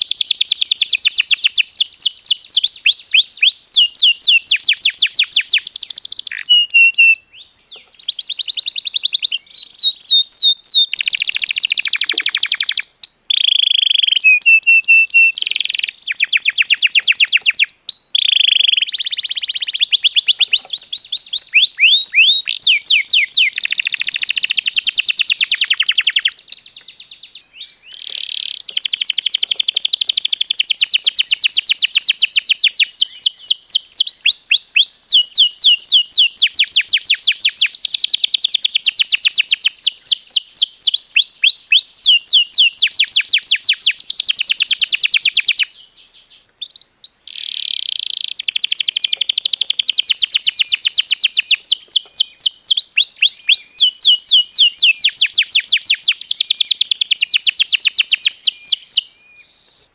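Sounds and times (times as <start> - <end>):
canary singing trills: 0.0 - 59.6.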